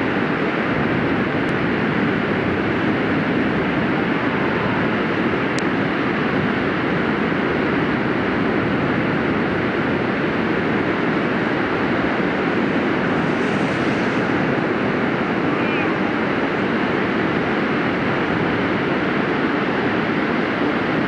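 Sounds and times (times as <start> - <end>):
wind rushing: 0.0 - 19.2
breaking surf: 0.0 - 21.0.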